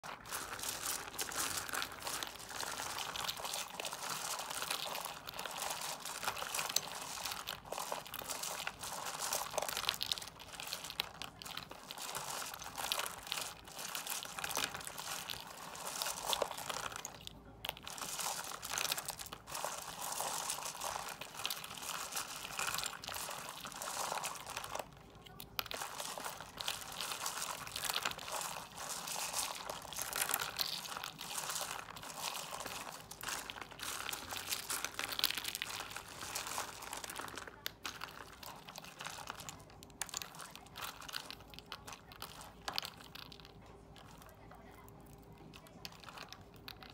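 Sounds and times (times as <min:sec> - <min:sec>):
paper and plastic toys rustling: 0:00.0 - 0:46.9.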